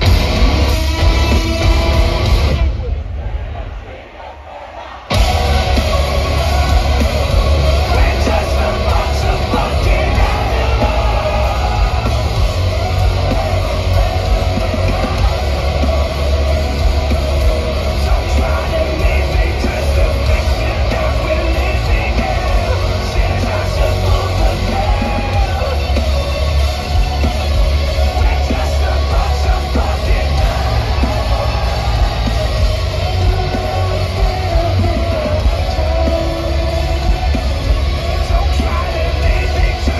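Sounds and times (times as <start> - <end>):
pounding drums: 0.0 - 3.0, 5.1 - 39.9
distorted electric guitars: 0.0 - 3.1, 5.1 - 39.9
heavy bass: 0.0 - 3.7, 5.1 - 39.9
person shouting and singing: 5.1 - 39.9.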